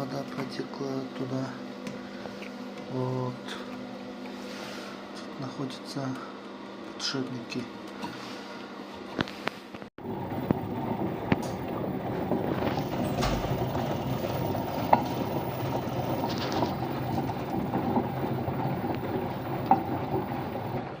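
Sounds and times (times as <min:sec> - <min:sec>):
washing machine spinning: 0:00.0 - 0:09.2, 0:10.0 - 0:21.0.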